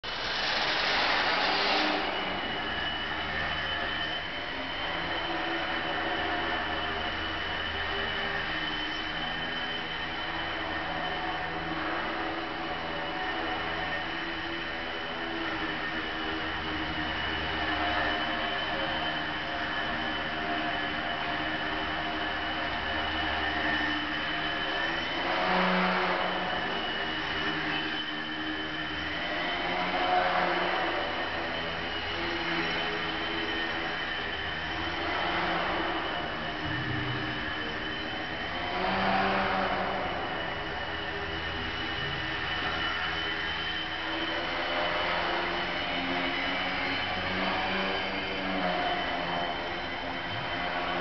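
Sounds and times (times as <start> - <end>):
rc plane motor and propeller: 0.0 - 51.0.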